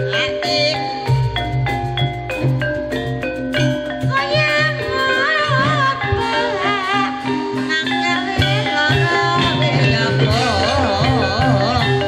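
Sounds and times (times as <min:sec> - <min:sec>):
drums: 0:00.0 - 0:12.0
high wavering melody: 0:00.0 - 0:12.0
metallophones: 0:00.0 - 0:12.0.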